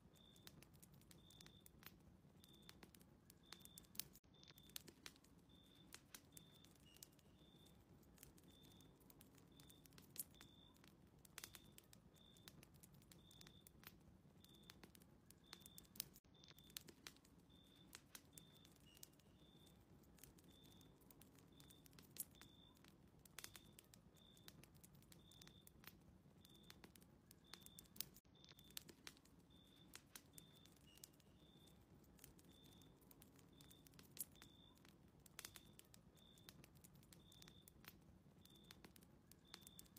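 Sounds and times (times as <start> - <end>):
fireplace crackling: 0.0 - 39.9.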